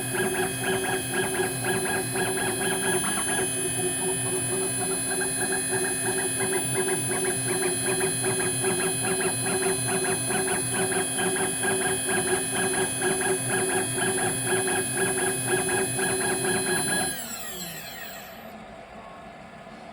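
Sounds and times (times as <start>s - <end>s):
stepper axis pulsing: 0.0s - 18.5s
spindle motor whine: 0.0s - 18.7s.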